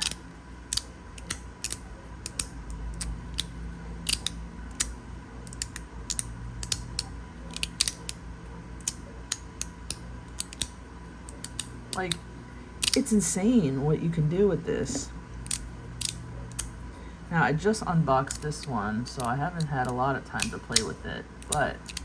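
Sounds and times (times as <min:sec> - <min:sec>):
magnetic fidget slider clicking: 0:00.0 - 0:13.2, 0:14.8 - 0:16.8, 0:18.2 - 0:22.0.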